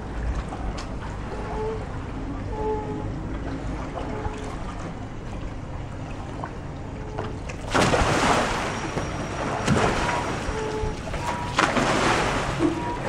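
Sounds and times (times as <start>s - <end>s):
gentle lapping of water: 0.0s - 13.0s
water splashing and sloshing: 0.0s - 13.0s.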